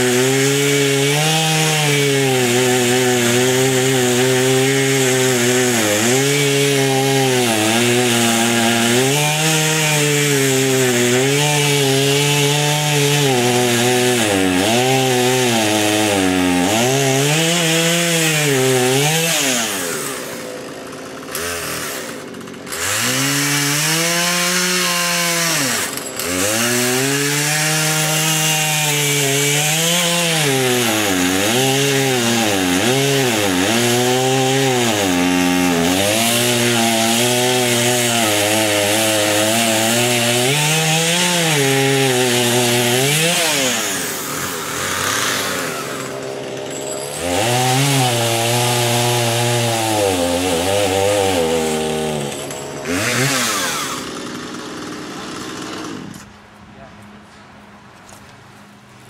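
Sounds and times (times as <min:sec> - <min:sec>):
chainsaw cutting wood: 0:00.0 - 0:56.4.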